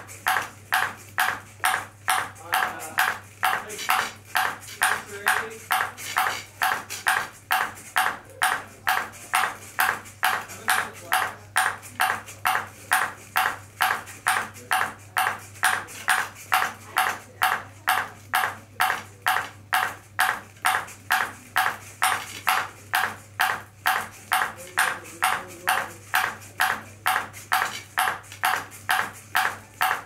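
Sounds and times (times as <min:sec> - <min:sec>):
ping pong ball bouncing on paddle: 0:00.2 - 0:30.0.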